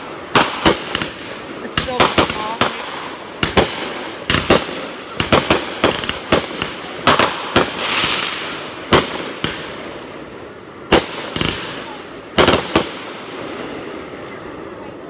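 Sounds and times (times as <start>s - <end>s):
fireworks bangs: 0.0s - 15.0s
fireworks hissing crackle: 0.0s - 15.0s.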